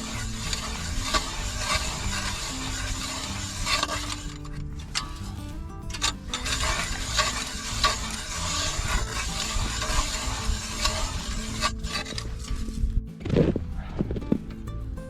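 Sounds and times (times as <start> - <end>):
ice scraping and crunching: 0.0 - 13.7.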